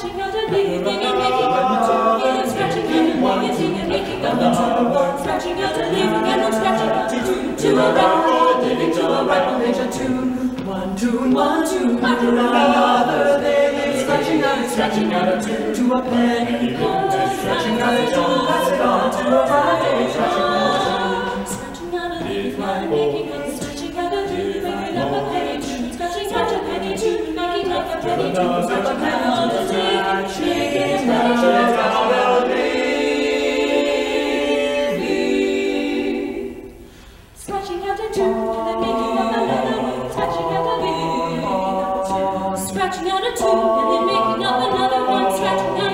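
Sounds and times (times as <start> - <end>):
a cappella ensemble singing: 0.0 - 45.9.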